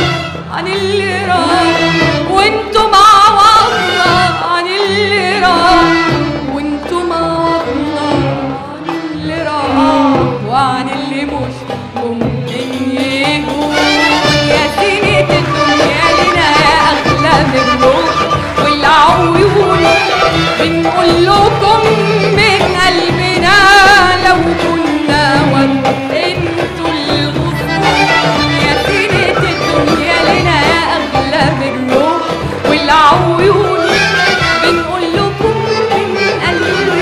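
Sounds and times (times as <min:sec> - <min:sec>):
orchestra with violins: 0:00.0 - 0:37.0
woman singing with vibrato: 0:00.0 - 0:37.0.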